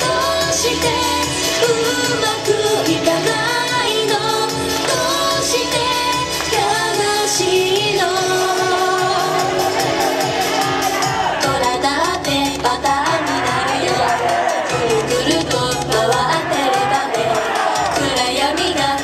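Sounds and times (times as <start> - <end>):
woman singing into microphone: 0.0 - 9.8, 11.4 - 14.2, 14.8 - 19.0
recorded pop backing track: 0.0 - 19.0.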